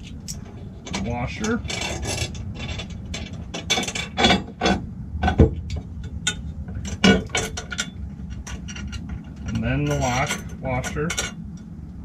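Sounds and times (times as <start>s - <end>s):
metal hardware clinking: 0.0s - 11.4s.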